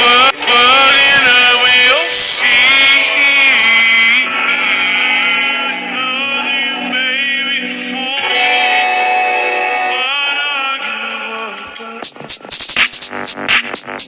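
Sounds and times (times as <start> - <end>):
melismatic singing with harmonies: 0.0 - 12.1.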